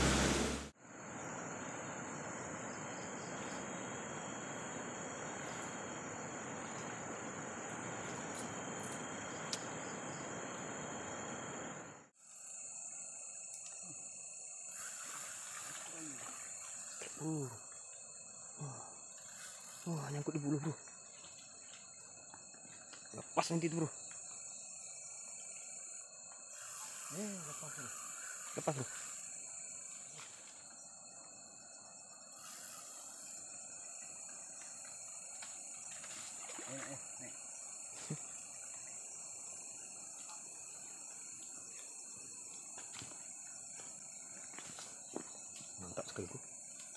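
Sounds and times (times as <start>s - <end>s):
crickets and insects trilling: 0.0s - 46.9s
faint outdoor hiss: 0.0s - 46.9s.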